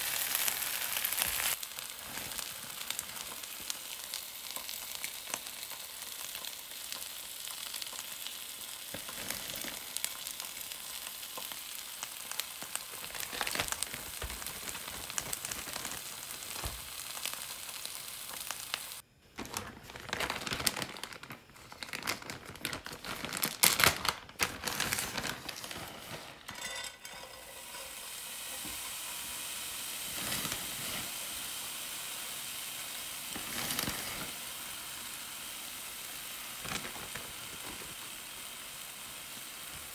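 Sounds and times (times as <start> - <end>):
eggs sizzling in a pan: 0.0 - 19.0, 24.4 - 39.9.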